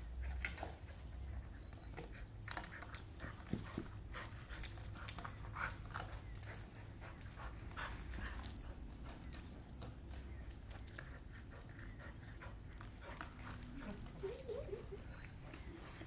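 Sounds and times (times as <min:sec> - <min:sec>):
dog panting: 0:00.1 - 0:16.0.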